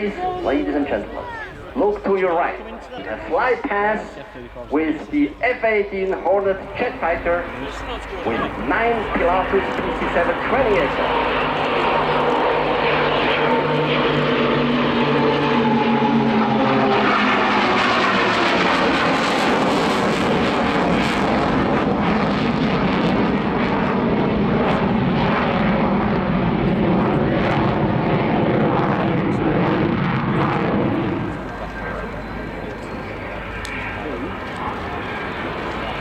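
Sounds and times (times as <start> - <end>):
jet roar: 0.0 - 36.0
propeller aircraft hum: 0.0 - 36.0.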